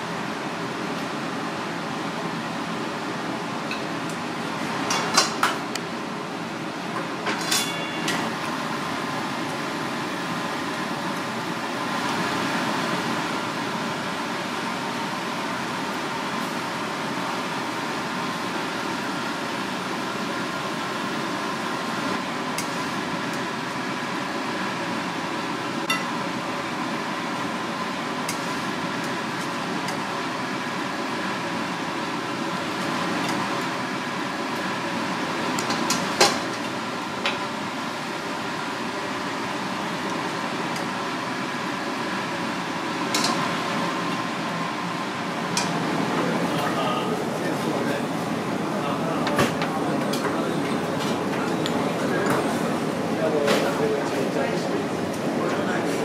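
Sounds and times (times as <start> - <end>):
kitchen machinery hum: 0.0 - 56.0.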